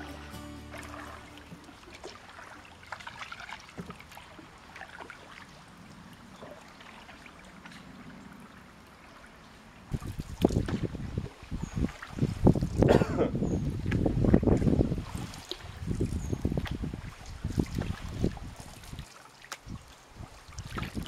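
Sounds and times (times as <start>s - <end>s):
paddles splashing in water: 0.0s - 21.0s.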